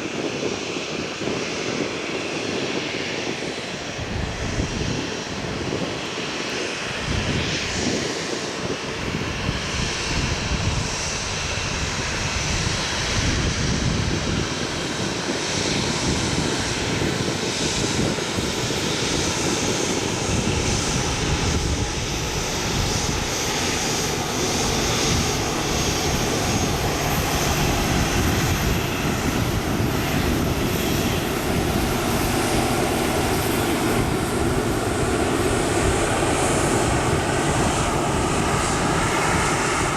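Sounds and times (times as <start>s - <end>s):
jet engines running at taxi power: 0.0s - 39.9s.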